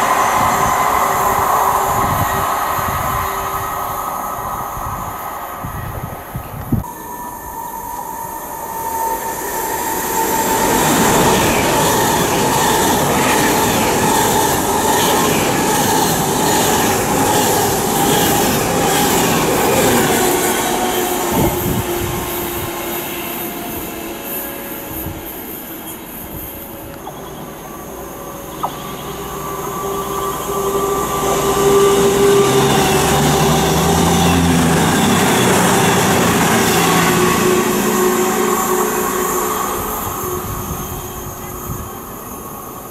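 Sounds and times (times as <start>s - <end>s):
diesel train engine: 0.0s - 42.9s
electric train passing at speed: 0.0s - 42.9s.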